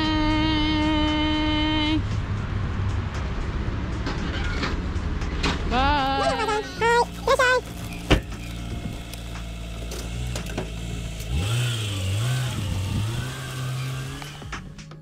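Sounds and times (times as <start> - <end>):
car engine idling and accelerating: 0.0 - 15.0.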